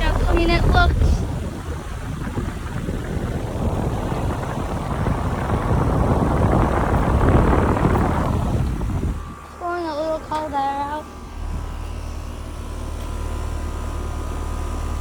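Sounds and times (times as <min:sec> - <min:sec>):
air conditioner fan rushing: 0:00.0 - 0:15.0
deep hum: 0:00.0 - 0:15.0.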